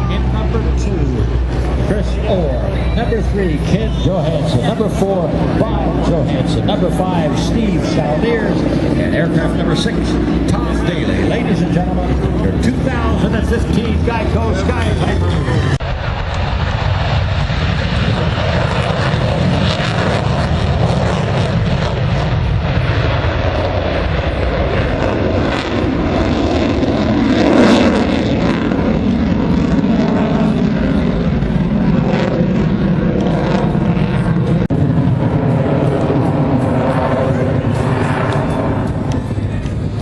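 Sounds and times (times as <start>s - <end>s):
propeller planes flying past: 0.0s - 40.0s.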